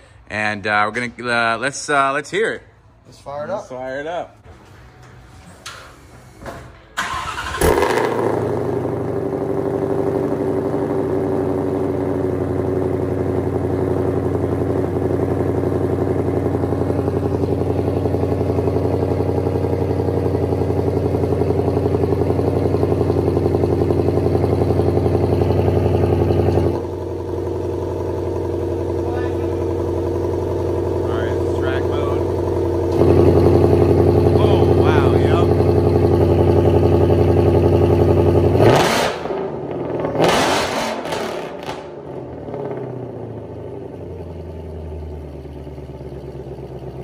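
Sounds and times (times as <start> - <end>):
car engine starting and idling: 4.4 - 47.0.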